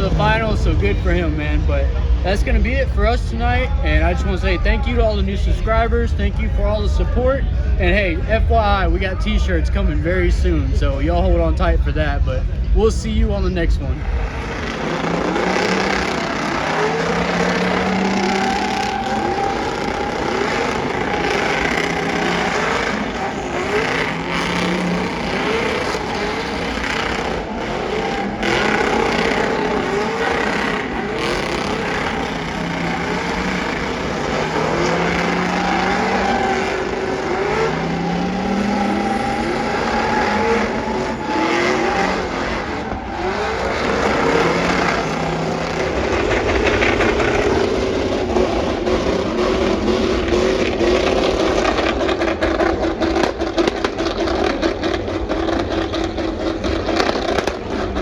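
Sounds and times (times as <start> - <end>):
racing engines revving: 0.0 - 58.0.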